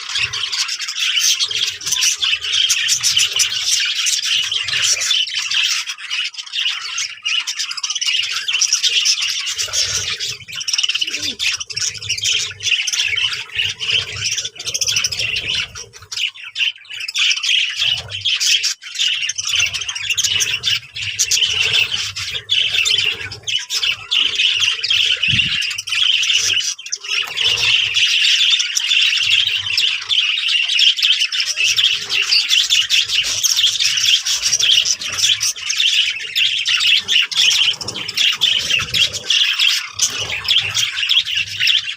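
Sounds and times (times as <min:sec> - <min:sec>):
small birds chirping and squawking: 0:00.0 - 0:41.9.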